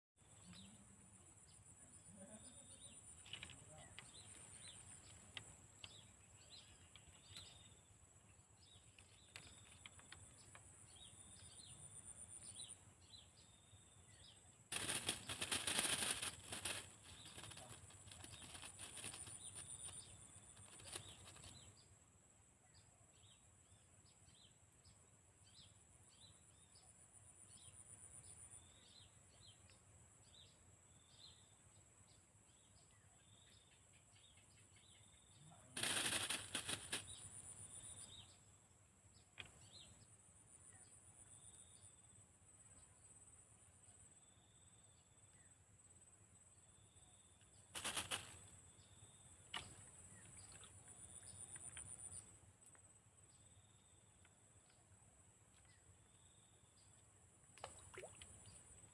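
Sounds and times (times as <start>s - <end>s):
small birds chirping: 0.2s - 22.0s, 22.7s - 42.0s, 47.2s - 58.9s.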